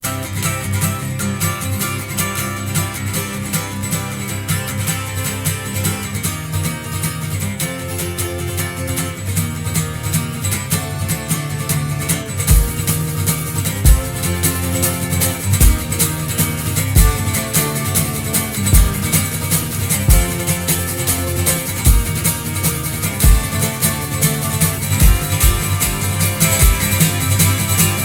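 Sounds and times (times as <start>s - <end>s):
acoustic guitar strumming: 0.0s - 28.0s
bass: 0.0s - 28.0s.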